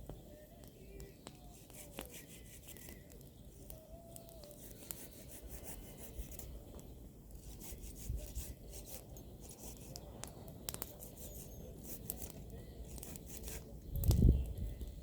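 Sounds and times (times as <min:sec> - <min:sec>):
bonfire crackling and popping: 0:00.0 - 0:15.0
low fire rumble: 0:00.0 - 0:15.0.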